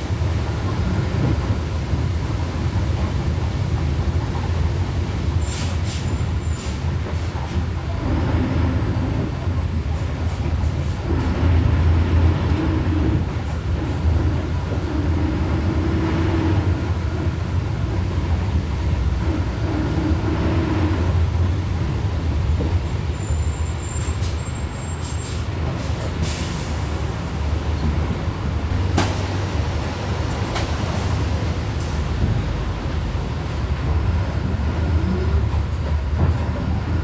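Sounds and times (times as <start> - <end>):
bus diesel engine rumble: 0.0 - 37.0.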